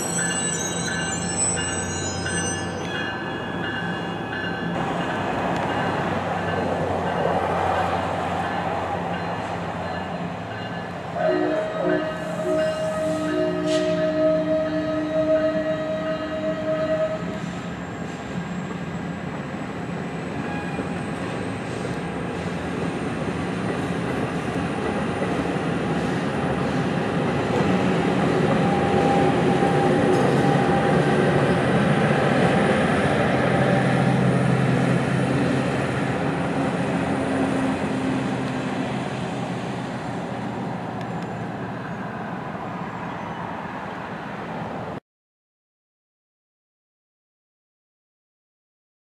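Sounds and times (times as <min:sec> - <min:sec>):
train passing platform: 0:00.0 - 0:45.0.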